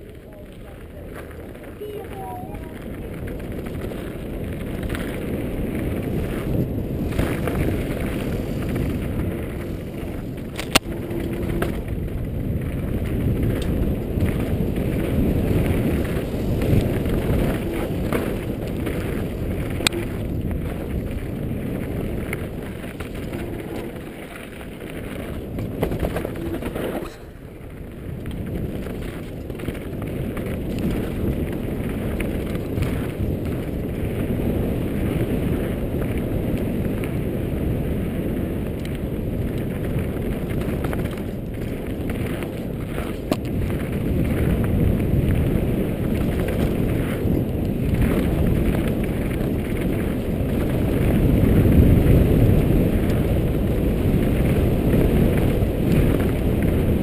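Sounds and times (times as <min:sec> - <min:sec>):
bike tyres rattling over stones: 0:00.0 - 0:57.0.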